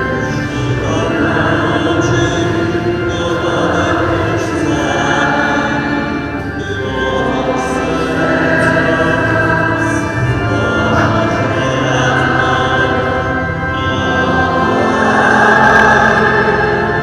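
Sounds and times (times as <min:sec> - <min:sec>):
congregation singing a hymn: 0:00.0 - 0:17.0
musical accompaniment: 0:00.0 - 0:17.0.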